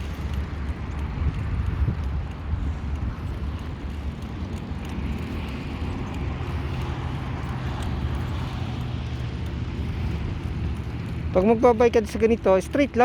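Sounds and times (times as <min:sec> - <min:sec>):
engine drone: 0:00.0 - 0:13.0
road traffic rumble: 0:00.0 - 0:13.0.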